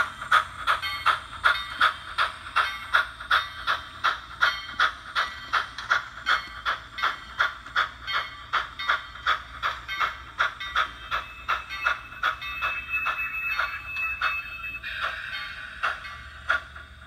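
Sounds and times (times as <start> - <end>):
model steam locomotive chuffs: 0.0 - 17.0.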